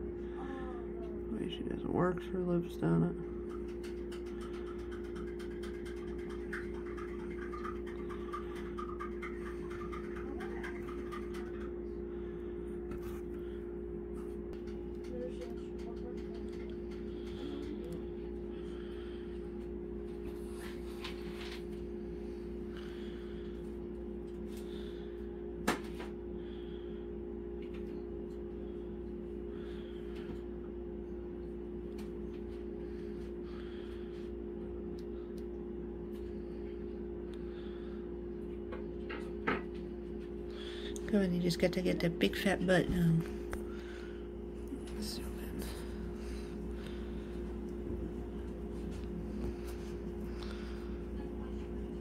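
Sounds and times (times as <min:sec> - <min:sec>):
low electrical hum: 0:00.0 - 0:52.0.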